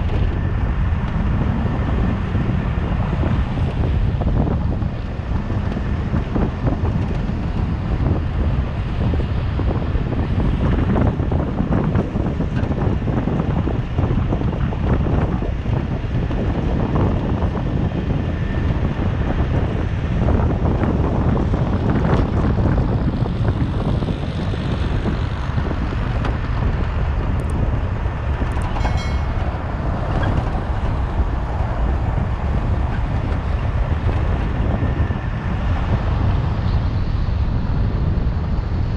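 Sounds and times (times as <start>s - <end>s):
car tyre and road rumble: 0.0s - 38.9s
wind buffeting microphone: 0.0s - 38.9s.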